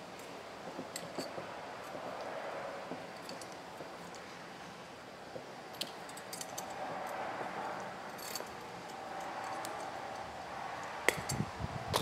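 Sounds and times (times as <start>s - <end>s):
light metallic clicks and clinks: 0.2s - 4.3s, 5.7s - 12.0s.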